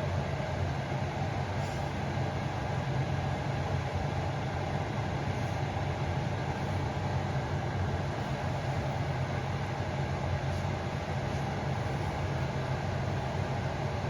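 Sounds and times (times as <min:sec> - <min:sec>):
humidifier fan whooshing: 0:00.0 - 0:14.0.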